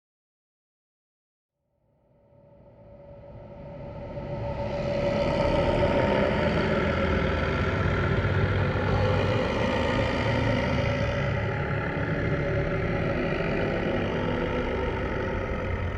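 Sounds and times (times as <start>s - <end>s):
low rumbling growl: 2.4s - 15.9s.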